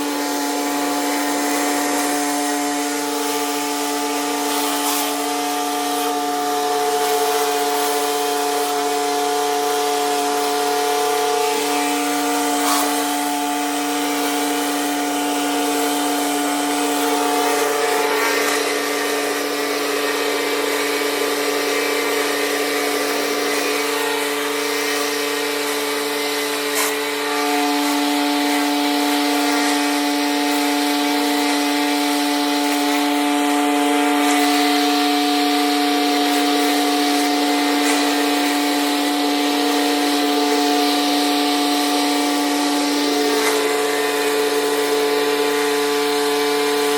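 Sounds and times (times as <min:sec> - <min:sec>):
high-pressure water spray hiss: 0:00.0 - 0:46.9
pressure washer motor hum: 0:00.0 - 0:46.9.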